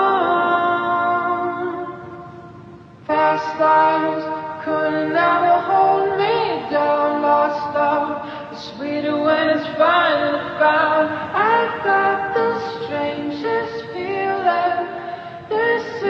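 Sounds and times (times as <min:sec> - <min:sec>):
layered sung vocals: 0:00.0 - 0:16.0.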